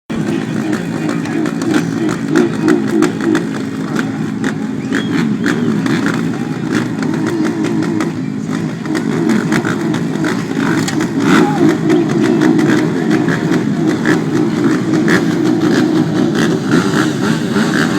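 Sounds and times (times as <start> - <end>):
motocross bike engines revving: 0.1 - 17.9.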